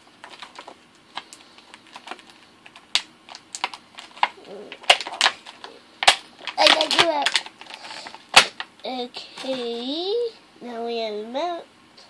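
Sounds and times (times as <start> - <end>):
plastic packaging crackling: 0.0 - 9.8.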